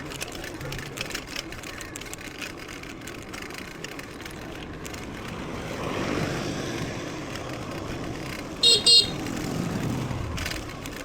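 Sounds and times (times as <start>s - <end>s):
bike tyre rumble: 0.0s - 11.0s.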